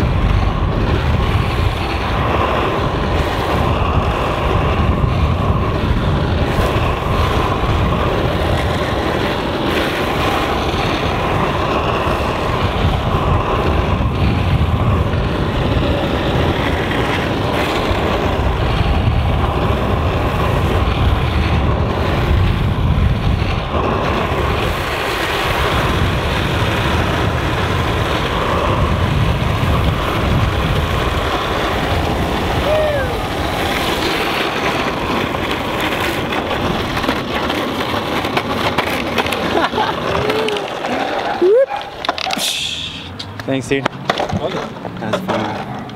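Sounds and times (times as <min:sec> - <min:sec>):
skateboard wheels rolling on asphalt: 0:00.0 - 0:45.9
wind buffeting microphone: 0:00.0 - 0:45.9.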